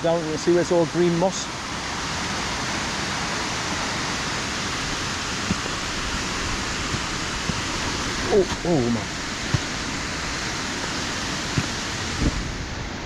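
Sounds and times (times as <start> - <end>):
waterfall pouring: 0.0 - 13.0.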